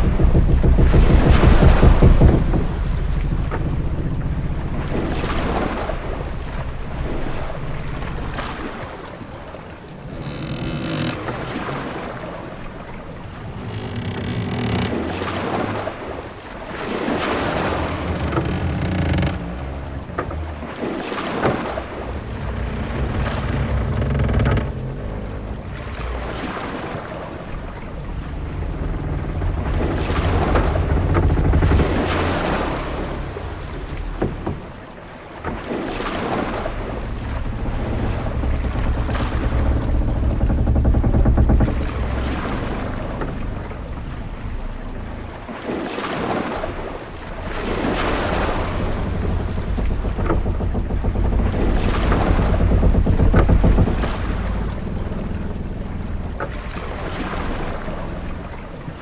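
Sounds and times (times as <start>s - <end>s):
heavy low rumble: 0.0s - 59.0s
waves washing: 0.0s - 59.0s.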